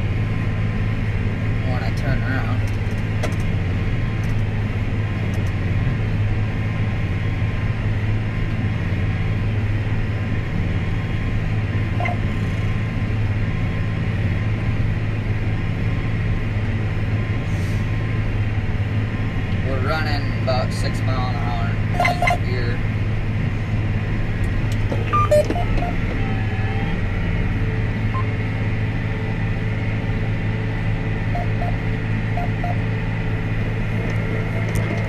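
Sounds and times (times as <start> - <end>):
tractor diesel engine droning: 0.0 - 35.0.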